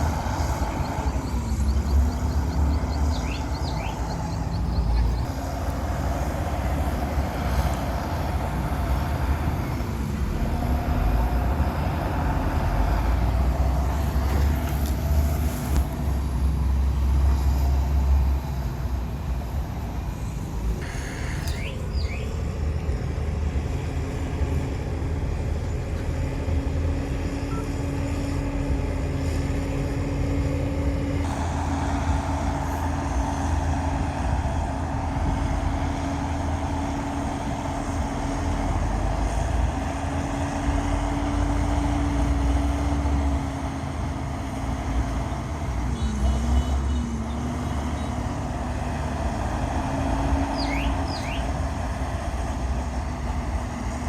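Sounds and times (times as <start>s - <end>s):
heavy diesel machinery rumbling: 0.0s - 54.0s
steady engine tone: 0.0s - 54.0s.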